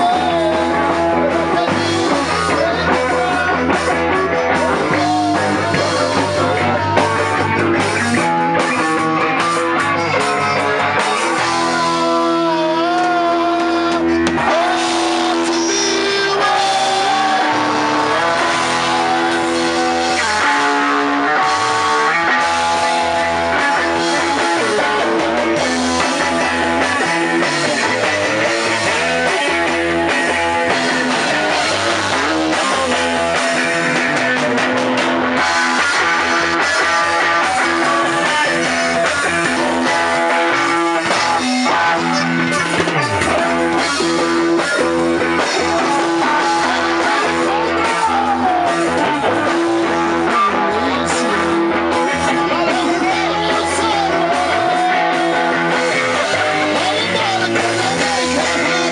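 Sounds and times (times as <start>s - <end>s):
rock music on guitar and bass: 0.0s - 58.9s.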